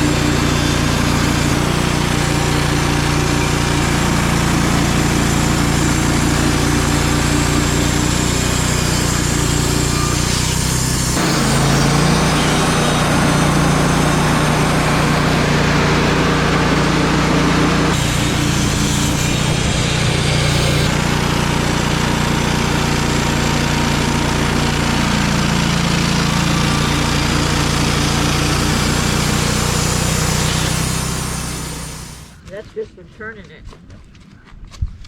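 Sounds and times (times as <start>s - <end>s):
sawmill engine running: 0.0s - 34.3s.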